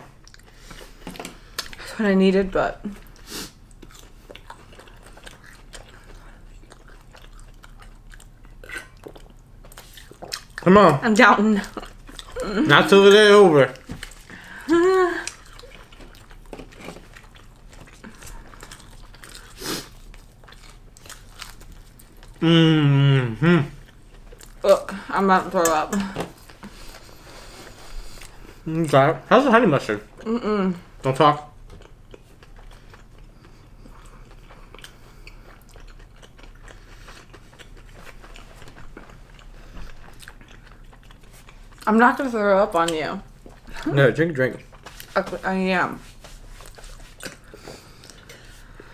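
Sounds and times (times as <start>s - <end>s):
chewing and crunching food: 0.0s - 22.5s, 23.4s - 48.9s
low room hum: 0.0s - 48.9s.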